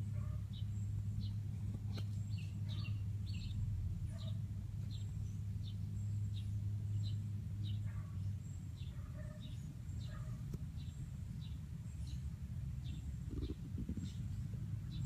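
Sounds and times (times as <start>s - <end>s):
bird chirping: 0.0s - 15.0s
steady low hum: 0.0s - 15.0s.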